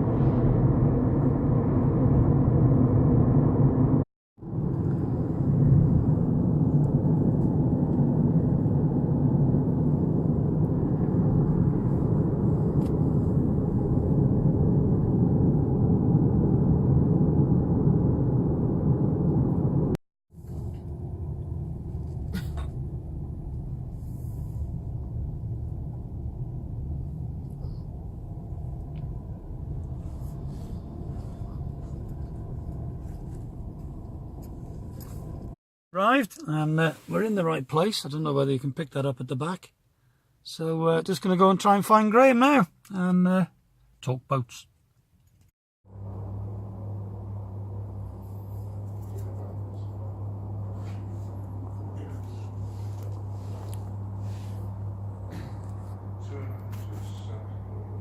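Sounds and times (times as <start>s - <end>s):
vehicle engine and road noise: 0.0s - 35.6s, 45.2s - 58.0s.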